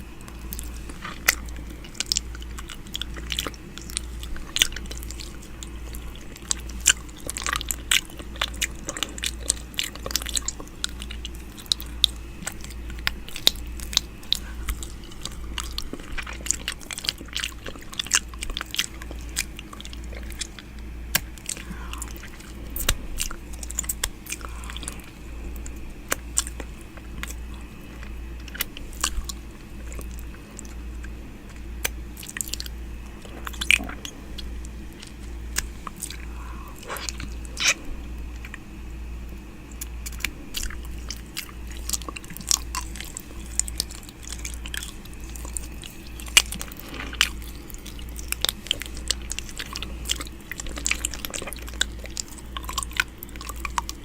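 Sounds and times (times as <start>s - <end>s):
low pulsing hum: 0.0s - 54.0s.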